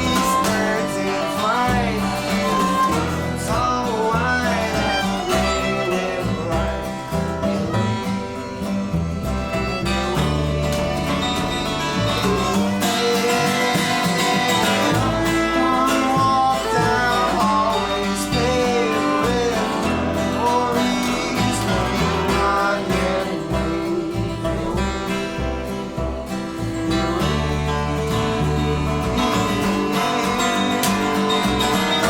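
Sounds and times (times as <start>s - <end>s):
acoustic guitar: 0.0s - 32.0s
bass: 0.0s - 32.0s
sliding melodic line: 0.0s - 32.0s.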